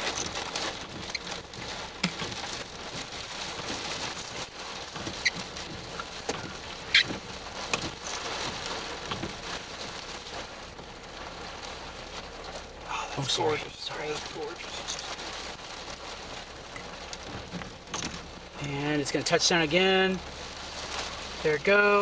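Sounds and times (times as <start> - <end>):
rain pattering: 0.0 - 22.0
sharp ticks of raindrops: 0.0 - 22.0.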